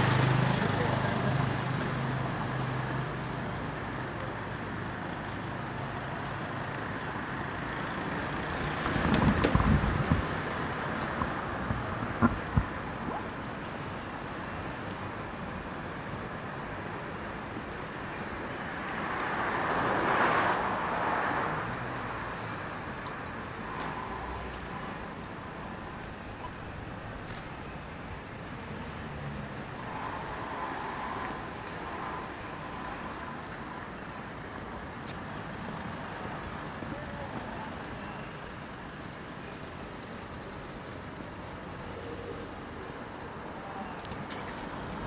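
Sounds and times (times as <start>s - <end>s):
city road traffic: 0.0s - 45.0s.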